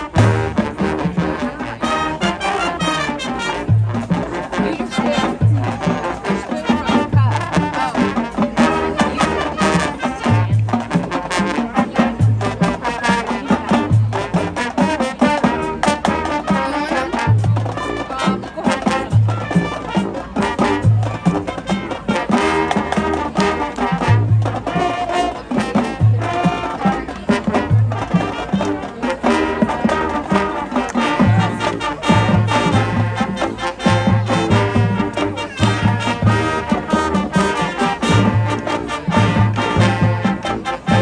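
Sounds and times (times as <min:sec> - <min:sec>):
marching band playing: 0:00.0 - 0:41.0.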